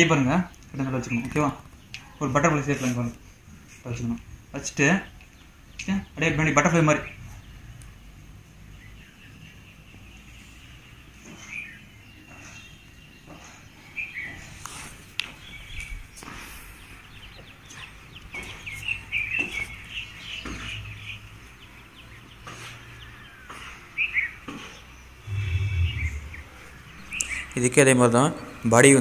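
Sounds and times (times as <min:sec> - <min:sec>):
birds chirping: 0:03.9 - 0:29.0.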